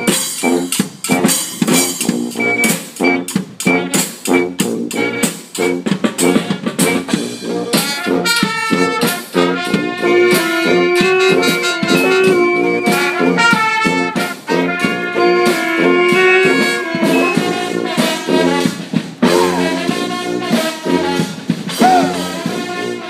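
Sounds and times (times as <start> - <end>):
bass drum beat: 0.0 - 23.0
brass marching band playing: 0.0 - 23.0.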